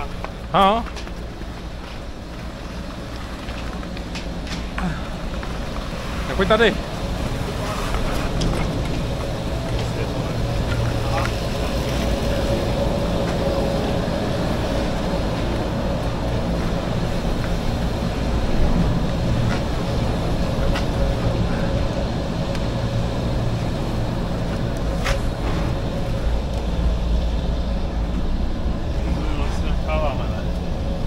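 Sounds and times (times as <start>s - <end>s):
chairlift machinery rumbling: 0.0s - 31.0s.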